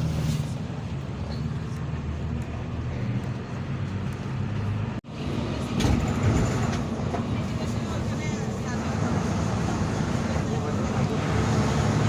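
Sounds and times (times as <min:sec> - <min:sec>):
diesel bus engine running: 0:00.0 - 0:12.0.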